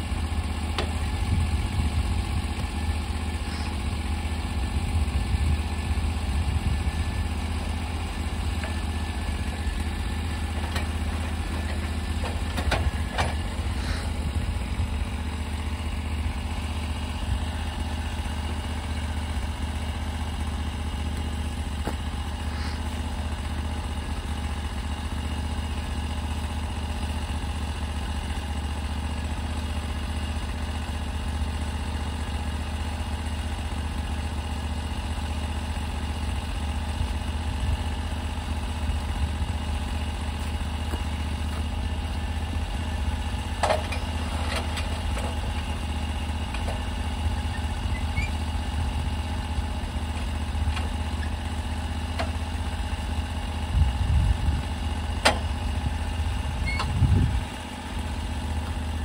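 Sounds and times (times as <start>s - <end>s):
sawmill engine idling: 0.0s - 59.0s.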